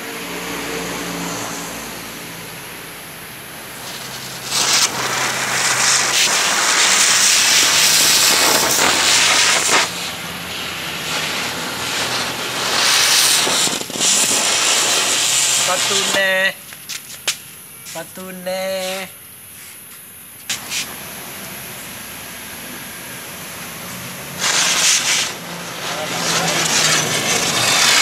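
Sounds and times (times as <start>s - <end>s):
ground spinner firework hissing: 3.3s - 28.0s.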